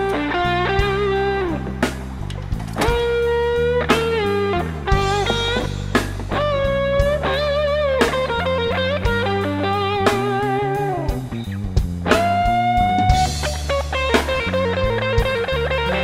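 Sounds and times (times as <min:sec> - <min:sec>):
bass line: 0:00.0 - 0:16.0
electric guitar lead: 0:00.0 - 0:16.0.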